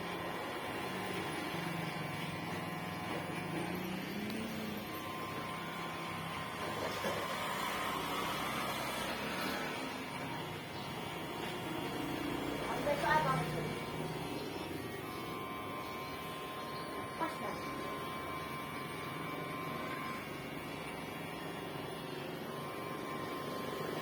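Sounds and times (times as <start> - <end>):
electric hair clipper buzzing: 0.0 - 24.0.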